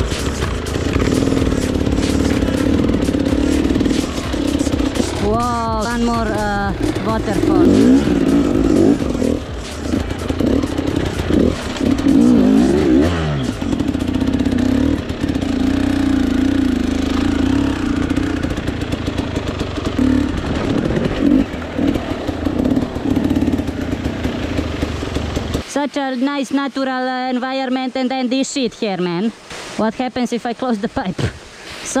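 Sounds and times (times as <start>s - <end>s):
dirt bike engine revving: 0.0s - 25.7s.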